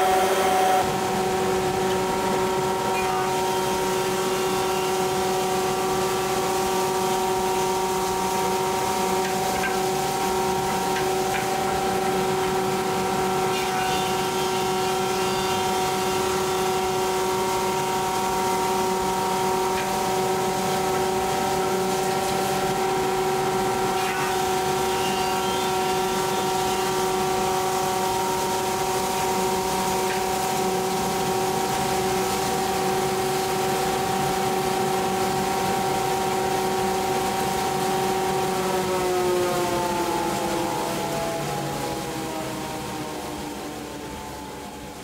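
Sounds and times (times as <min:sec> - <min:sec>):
planer machine whining: 0:00.0 - 0:44.9.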